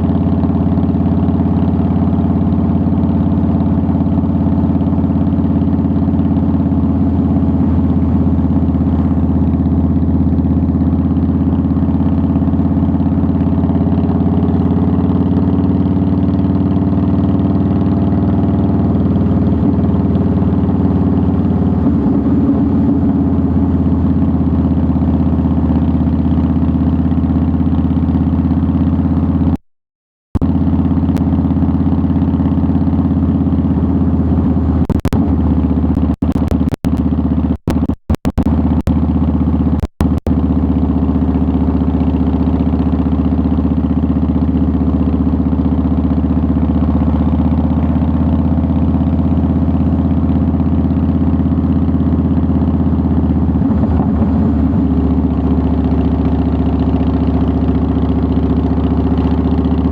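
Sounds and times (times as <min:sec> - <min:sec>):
motorcycle engine running: 0:00.0 - 0:29.6, 0:30.4 - 0:59.9.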